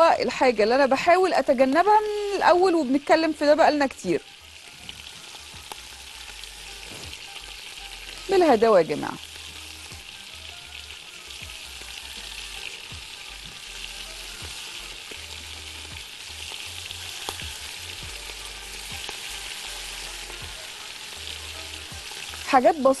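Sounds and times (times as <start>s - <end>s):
meat sizzling in butter: 0.0s - 23.0s.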